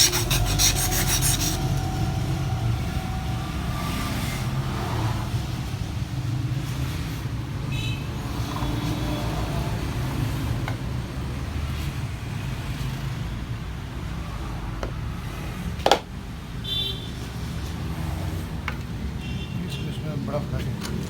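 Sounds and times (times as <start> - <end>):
vehicle engines rumbling: 0.0 - 21.0.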